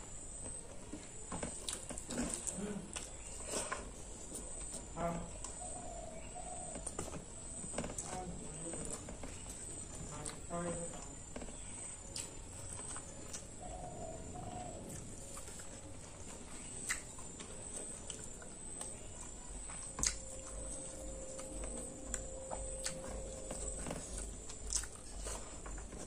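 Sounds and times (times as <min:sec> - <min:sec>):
person chewing food: 0:00.4 - 0:26.0.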